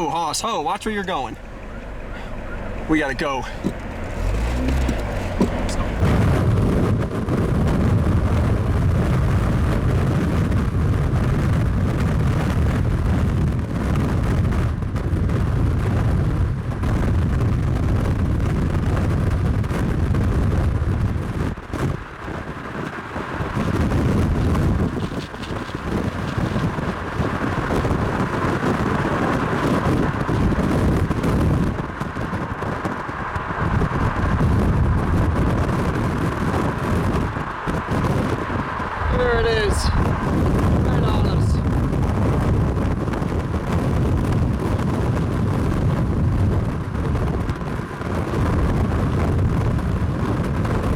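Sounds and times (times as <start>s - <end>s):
vehicle driving hard: 0.0s - 50.9s
wind buffeting: 0.0s - 50.9s.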